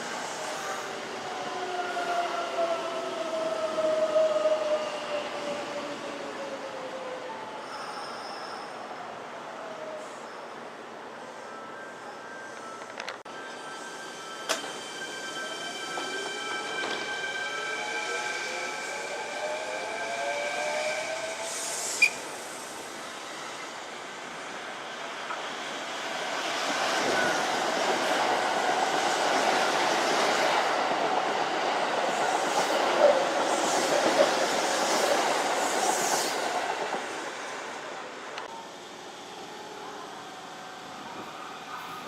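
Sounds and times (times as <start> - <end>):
electric train rolling past: 0.0 - 42.0.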